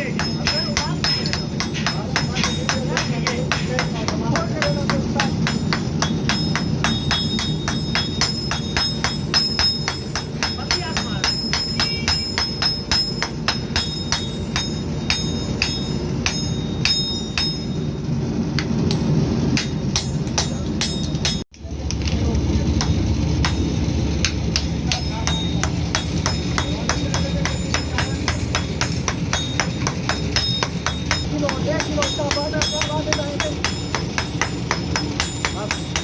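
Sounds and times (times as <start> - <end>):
deep rumble: 0.0 - 36.0
hammers striking steel on anvil: 0.0 - 36.0.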